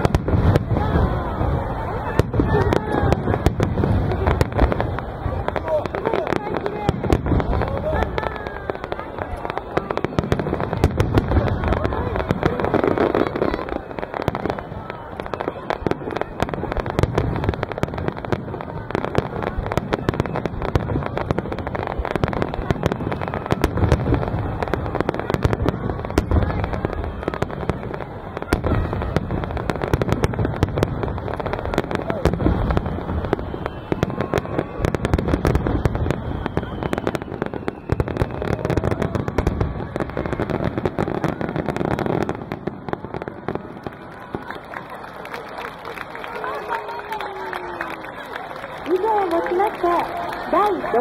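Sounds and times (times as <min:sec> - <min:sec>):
fireworks bursting: 0:00.0 - 0:51.0.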